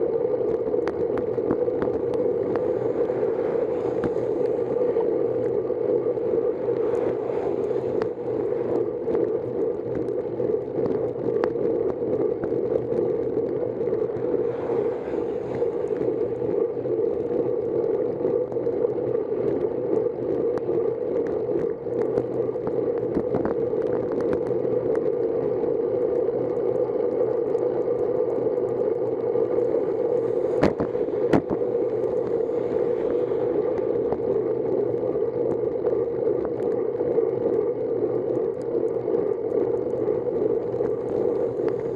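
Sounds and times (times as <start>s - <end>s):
rushing wind: 0.0s - 25.9s, 27.9s - 37.5s, 38.5s - 41.9s
bicycle road noise: 0.0s - 41.9s.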